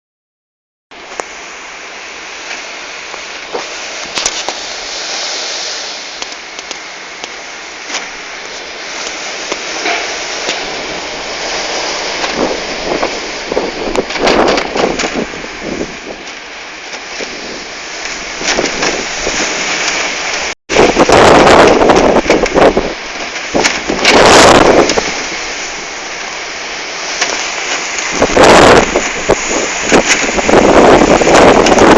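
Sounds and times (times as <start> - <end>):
strong gusty wind buffeting microphone: 2.3 - 31.9.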